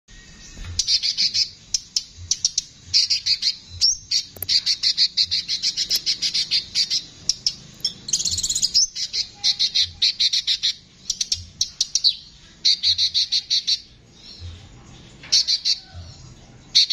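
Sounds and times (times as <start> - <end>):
bird singing sharp chirps and trill: 0.1 - 16.9.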